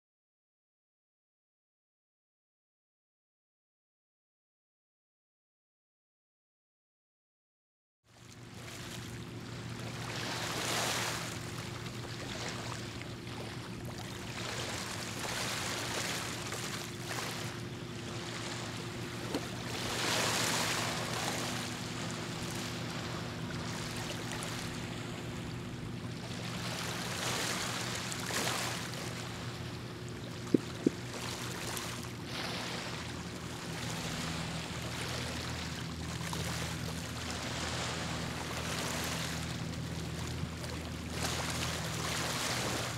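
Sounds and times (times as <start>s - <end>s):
water lapping in swells: 8.1s - 42.9s
low engine drone: 8.2s - 42.9s.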